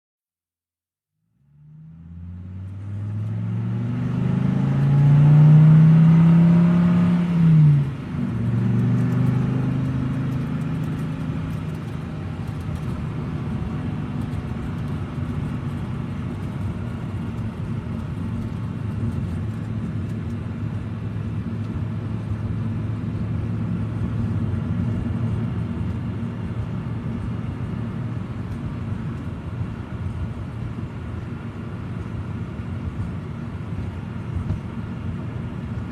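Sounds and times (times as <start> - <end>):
car engine driving slowly: 1.4 - 35.9.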